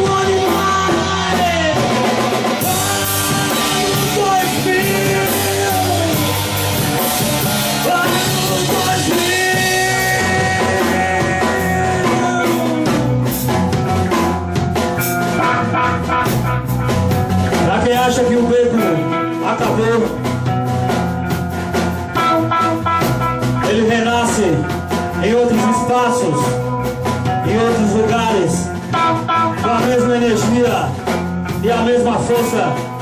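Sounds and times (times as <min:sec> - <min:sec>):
distorted guitars: 0:00.0 - 0:33.0
drum kit beat: 0:00.0 - 0:33.0.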